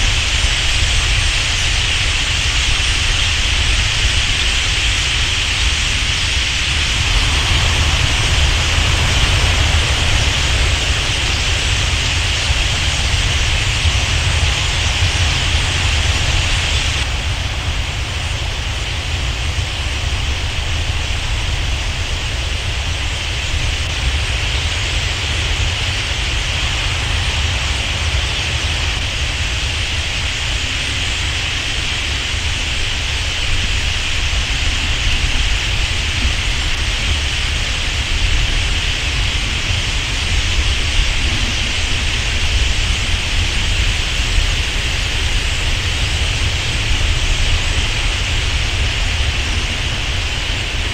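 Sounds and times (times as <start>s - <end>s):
flock of starlings calling: 0.0s - 50.9s.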